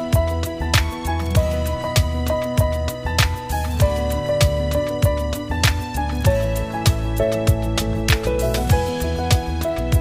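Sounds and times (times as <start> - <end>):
background music with deep drum: 0.0 - 10.0.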